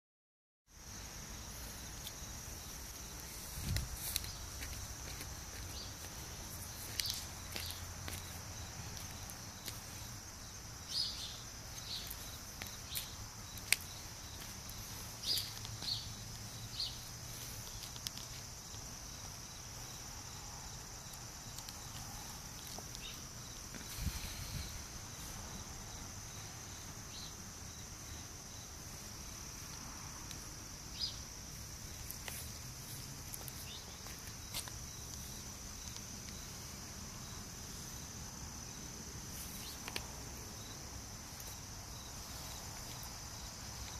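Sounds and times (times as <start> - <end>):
insects chirping: 0.7 - 43.9.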